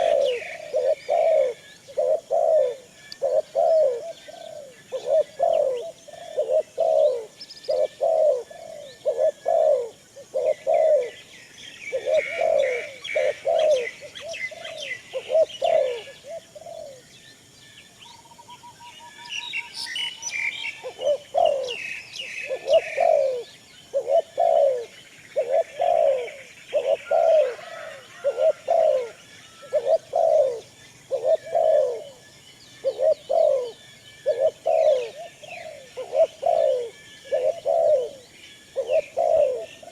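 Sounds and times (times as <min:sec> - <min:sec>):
doves cooing: 0:00.0 - 0:17.1, 0:20.0 - 0:39.9
small birds chirping: 0:00.0 - 0:39.9.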